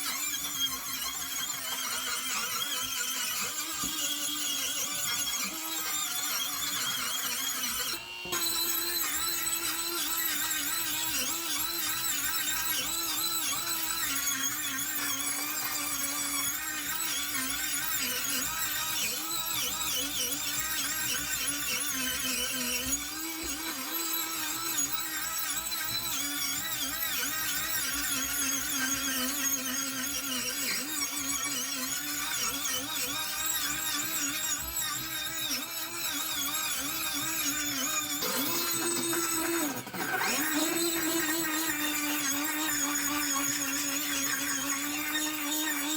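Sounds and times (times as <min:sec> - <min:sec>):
power tool squealing on metal: 0:00.0 - 0:45.9.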